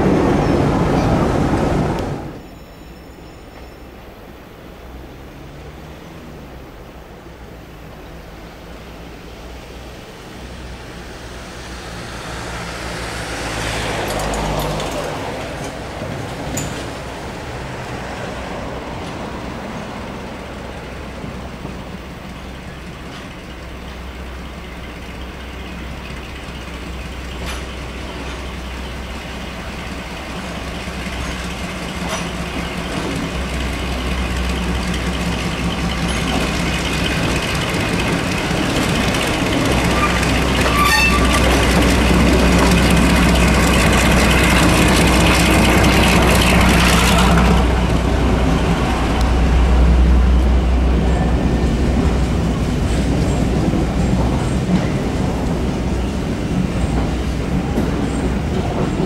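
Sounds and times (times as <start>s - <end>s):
diesel locomotive engine drone: 0.0s - 59.0s
train coaches rolling by: 0.0s - 59.0s.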